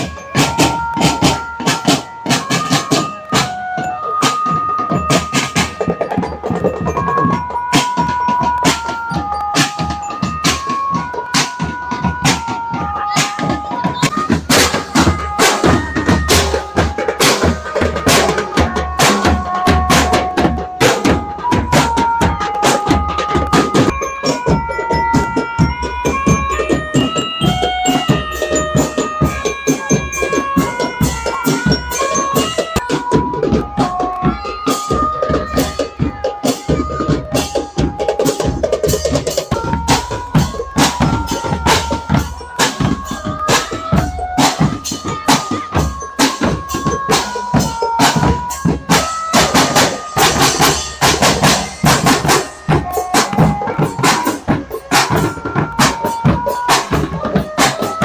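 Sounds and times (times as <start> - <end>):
bass and snare drums: 0.0 - 58.0.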